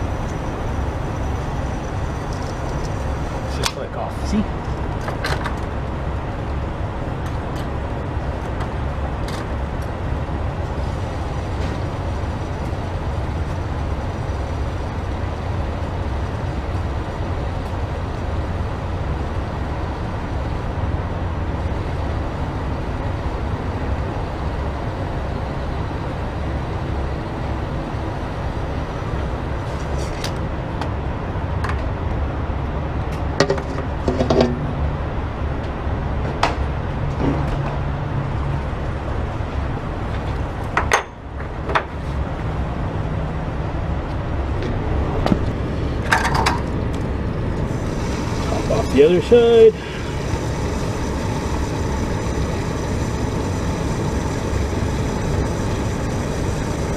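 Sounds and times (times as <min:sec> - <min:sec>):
diesel truck idling: 0:00.0 - 0:37.0, 0:37.8 - 0:56.9.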